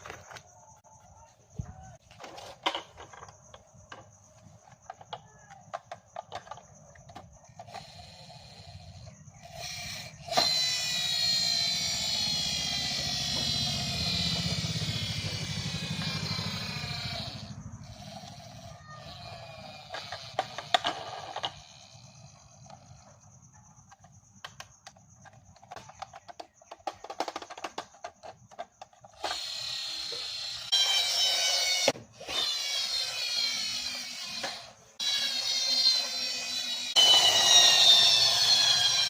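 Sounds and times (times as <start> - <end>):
small electric toy motor whining: 1.6 - 23.3, 25.6 - 39.0
toy being handled clicks: 5.2 - 23.0, 24.0 - 39.0.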